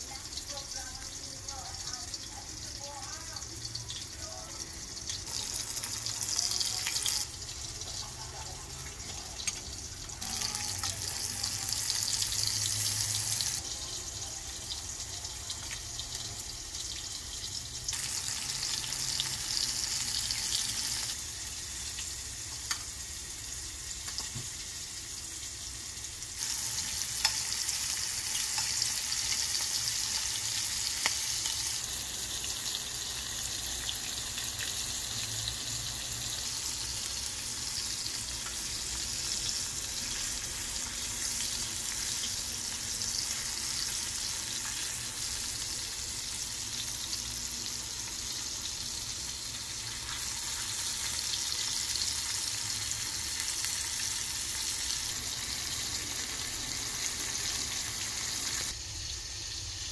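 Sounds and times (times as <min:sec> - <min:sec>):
shrimp sizzling in oil: 0:00.0 - 0:59.9.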